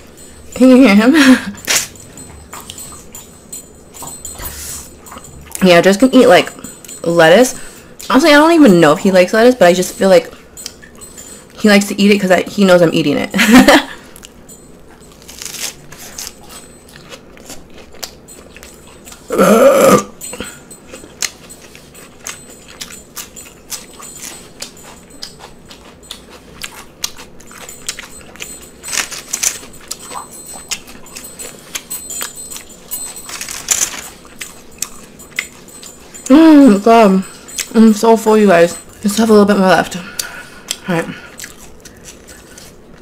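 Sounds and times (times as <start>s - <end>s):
mouth chewing: 1.6s - 8.2s, 14.2s - 43.0s.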